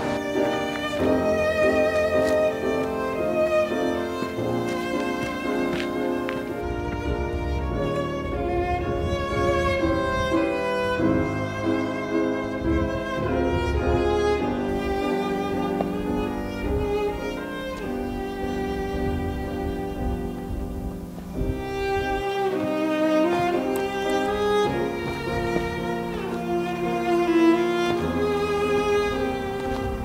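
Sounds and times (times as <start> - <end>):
bowed strings with violin: 0.0 - 30.0.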